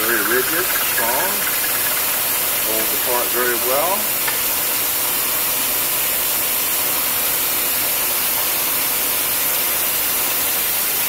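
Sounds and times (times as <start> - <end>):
milling machine cutting hiss: 0.0 - 11.0.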